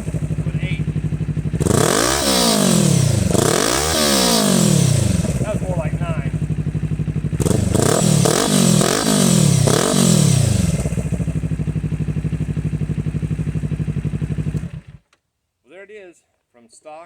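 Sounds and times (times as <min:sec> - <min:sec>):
motorcycle engine idling and revving: 0:00.0 - 0:15.1.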